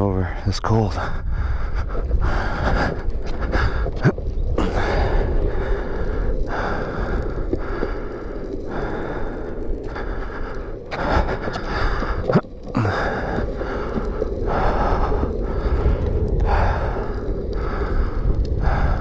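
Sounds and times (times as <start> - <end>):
steady low rumble: 0.0 - 19.0
man breathing heavily: 0.9 - 19.0.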